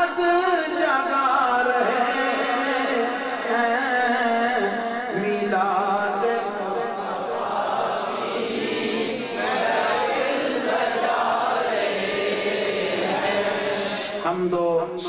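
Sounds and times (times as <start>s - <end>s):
congregation chanting in unison: 0.0s - 15.0s.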